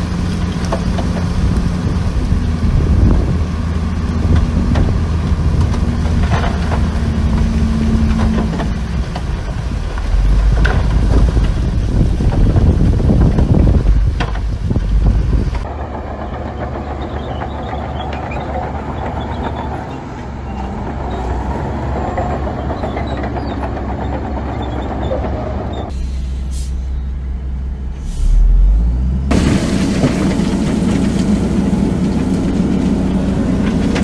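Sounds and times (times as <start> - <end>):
heavy diesel machinery rumbling: 0.0 - 34.0.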